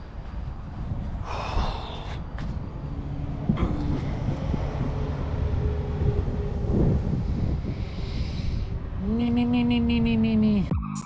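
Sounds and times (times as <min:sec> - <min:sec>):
truck engine and road rumble: 0:00.0 - 0:10.7.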